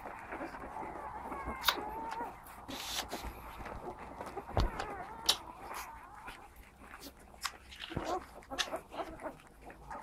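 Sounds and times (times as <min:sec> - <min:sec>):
puppies squeaking: 0:00.0 - 0:10.0.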